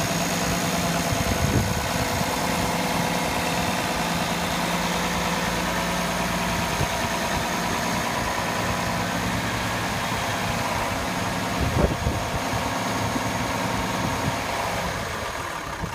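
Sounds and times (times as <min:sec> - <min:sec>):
tractor diesel engine idling: 0:00.0 - 0:15.9.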